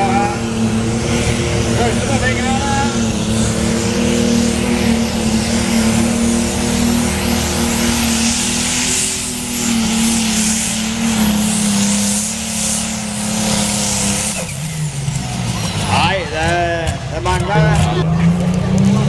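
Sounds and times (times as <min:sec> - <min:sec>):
engine running at high revs: 0:00.0 - 0:19.0.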